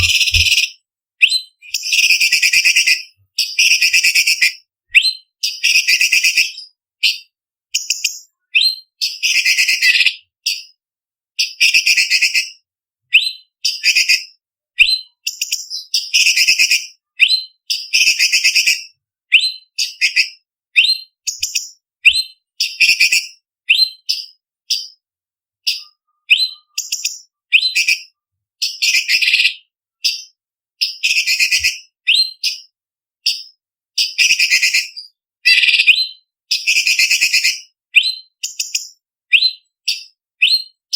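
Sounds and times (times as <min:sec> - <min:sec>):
bird singing whistles and chips: 0:00.0 - 0:10.7, 0:13.1 - 0:25.0, 0:25.6 - 0:40.8.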